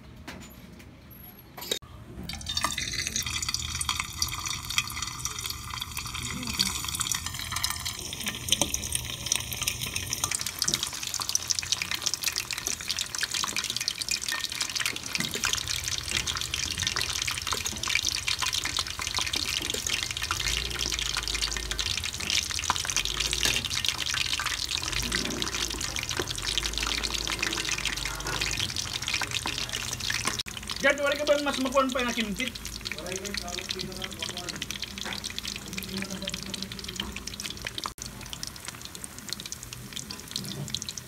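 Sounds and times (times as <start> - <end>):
oil sizzling and crackling: 2.2 - 41.0.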